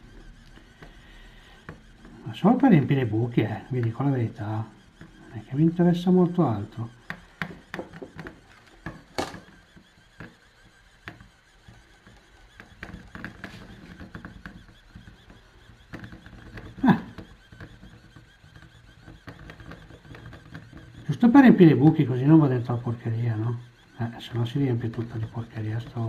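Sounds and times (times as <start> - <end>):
pen feed motor humming: 0.0 - 26.0.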